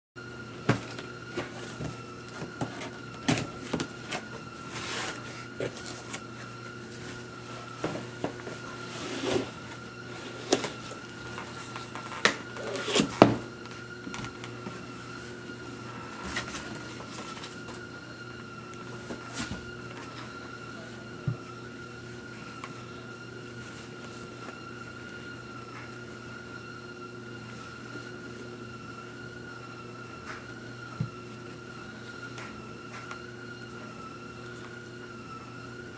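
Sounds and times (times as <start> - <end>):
background hum with whine: 0.2 - 35.9.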